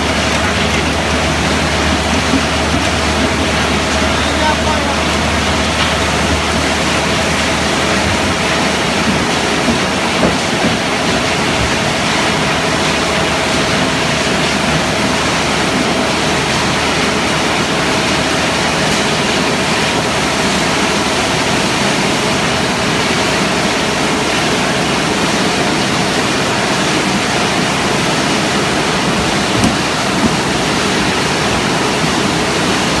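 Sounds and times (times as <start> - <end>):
pipe crusher machine noise: 0.0 - 33.0.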